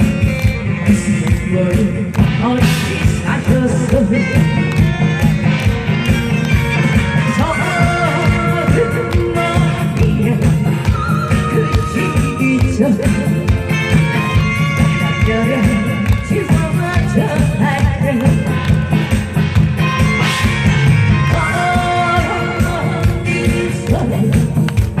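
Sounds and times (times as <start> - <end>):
steady drum beat: 0.0 - 25.0.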